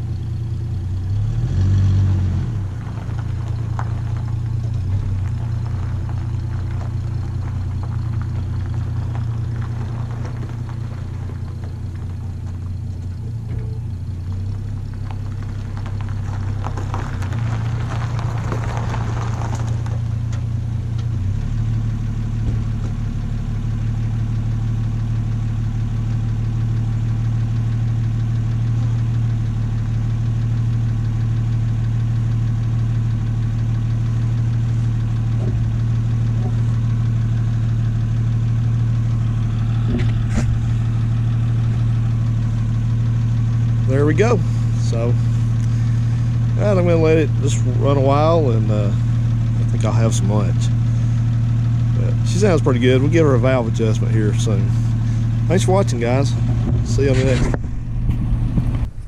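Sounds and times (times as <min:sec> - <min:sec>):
car engine running: 0:00.0 - 0:59.0
tyres crunching over gravel: 0:00.0 - 0:59.0.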